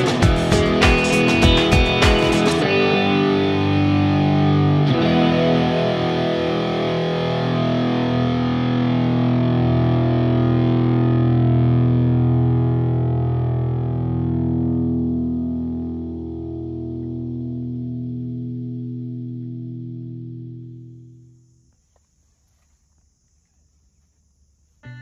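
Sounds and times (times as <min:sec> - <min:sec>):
distorted electric guitar chords: 0:00.0 - 0:21.2.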